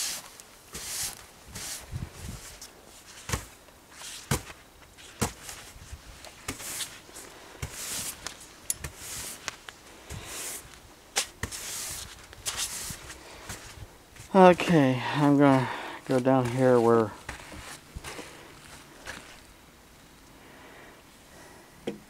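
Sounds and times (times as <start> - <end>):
footsteps crunching in snow: 0.0 - 19.6.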